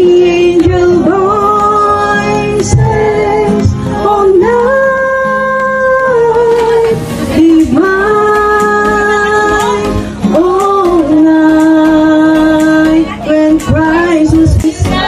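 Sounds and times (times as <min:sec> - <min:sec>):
guitar accompaniment: 0:00.0 - 0:15.0
woman singing slowly: 0:00.0 - 0:15.0.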